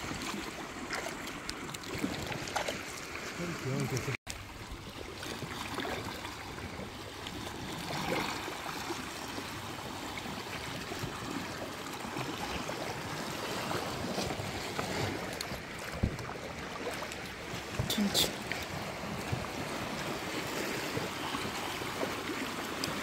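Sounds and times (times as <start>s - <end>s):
water sloshing along kayak hull: 0.0s - 23.0s.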